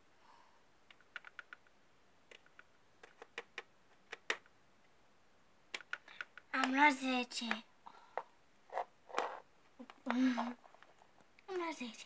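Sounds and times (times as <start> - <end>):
plastic toys clicking and tapping: 0.9 - 4.5, 5.7 - 11.8.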